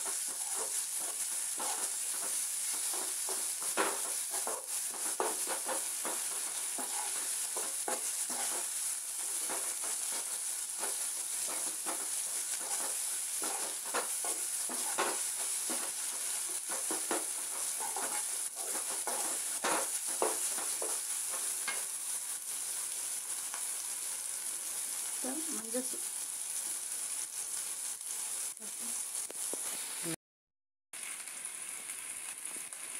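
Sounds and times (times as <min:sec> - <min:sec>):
onions sizzling in oil: 0:00.0 - 0:30.2, 0:31.0 - 0:32.9.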